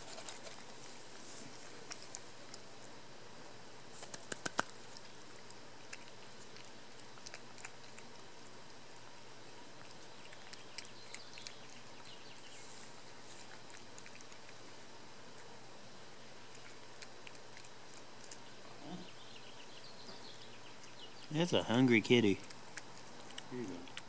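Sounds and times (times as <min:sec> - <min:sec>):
cat chewing and licking: 0:00.0 - 0:03.0, 0:04.0 - 0:24.0.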